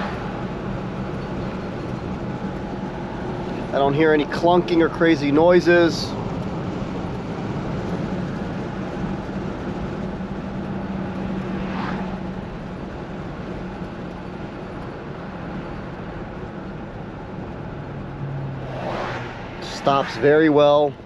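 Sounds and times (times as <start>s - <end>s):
car engine running: 0.0s - 21.0s
road and tyre noise: 0.0s - 21.0s.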